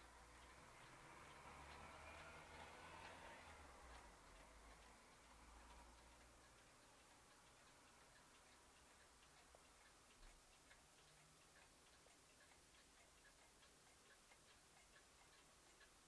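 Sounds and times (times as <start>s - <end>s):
pendulum clock ticking: 0.0s - 16.0s.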